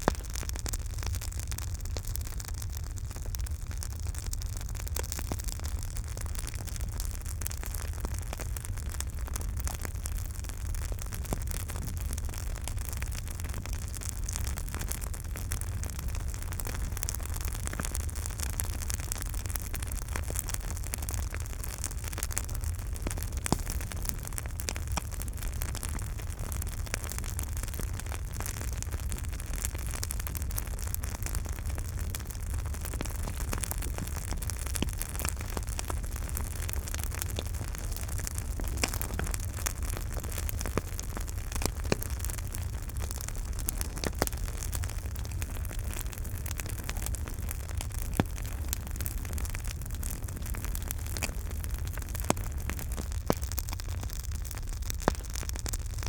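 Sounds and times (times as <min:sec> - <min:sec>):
campfire rumble and hiss: 0:00.0 - 0:56.0
fire crackles and pops: 0:00.0 - 0:56.0.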